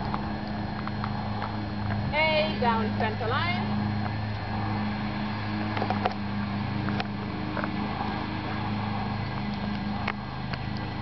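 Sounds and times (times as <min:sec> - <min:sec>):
motor hum: 0:00.0 - 0:11.0.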